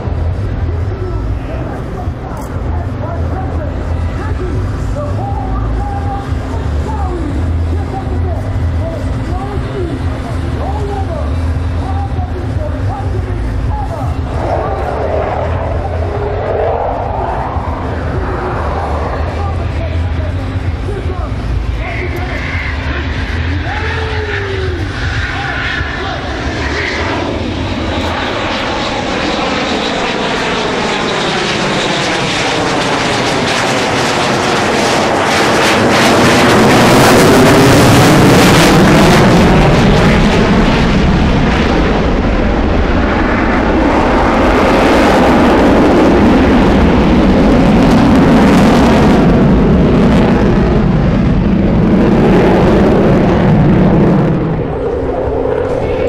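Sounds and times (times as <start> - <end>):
jet fighter flying past: 5.8 - 56.0.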